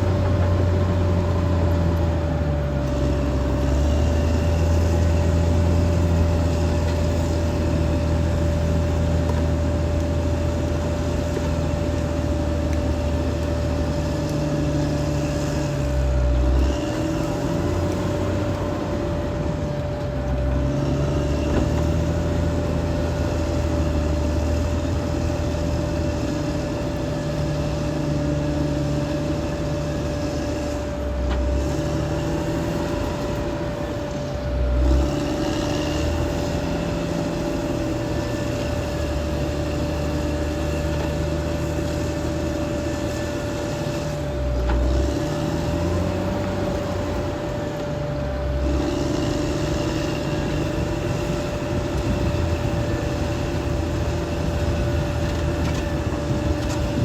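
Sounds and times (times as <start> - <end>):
bulldozer diesel engine: 0.0 - 57.0
steady whine: 0.0 - 57.0.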